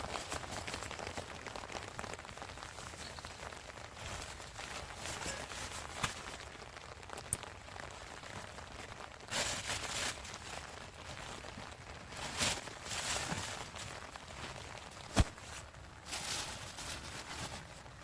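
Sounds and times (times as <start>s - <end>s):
rain pattering: 0.0s - 18.0s
rustling: 0.0s - 18.0s.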